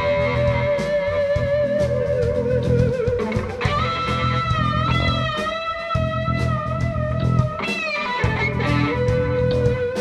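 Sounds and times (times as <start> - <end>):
bass guitar: 0.0 - 10.0
drum kit steady beat: 0.0 - 10.0
electric guitar lead note: 0.0 - 10.0.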